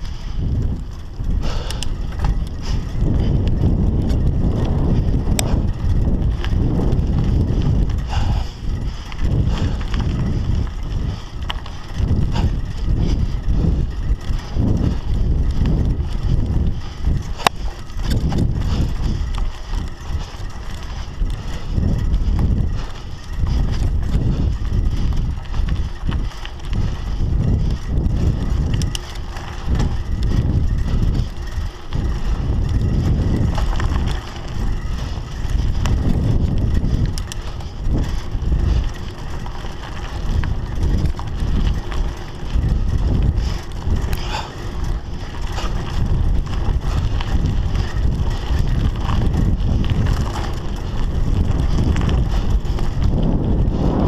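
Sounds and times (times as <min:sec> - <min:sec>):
bike clicks and rattles: 0:00.0 - 0:54.0
bike tyres rumbling on dirt: 0:00.0 - 0:54.0
wind buffeting microphone: 0:00.0 - 0:54.0.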